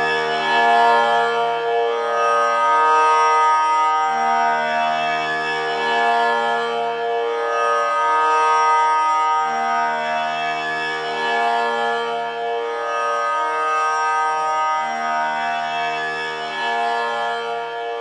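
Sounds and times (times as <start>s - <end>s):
tanpura drone: 0.0s - 18.0s.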